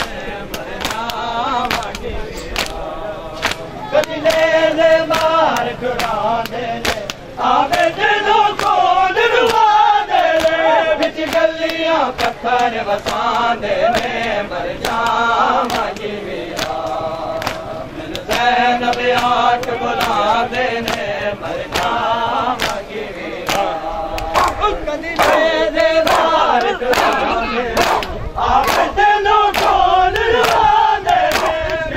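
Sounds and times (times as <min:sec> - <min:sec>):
hands slapping chests: 0:00.0 - 0:02.8, 0:03.4 - 0:04.5, 0:05.1 - 0:07.9, 0:08.6 - 0:22.0, 0:22.6 - 0:22.8, 0:23.4 - 0:31.8
men chanting a lament: 0:00.0 - 0:31.9.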